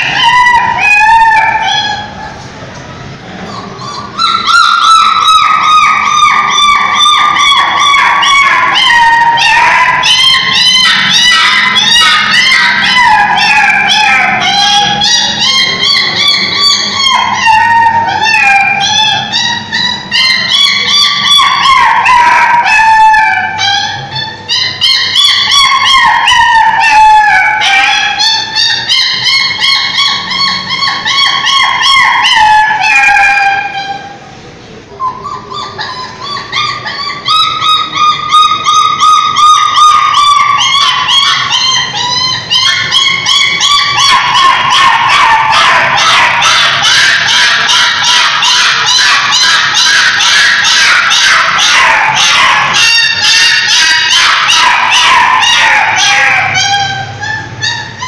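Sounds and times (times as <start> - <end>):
dog howling: 0.0 - 2.4, 3.5 - 34.2, 35.0 - 58.0.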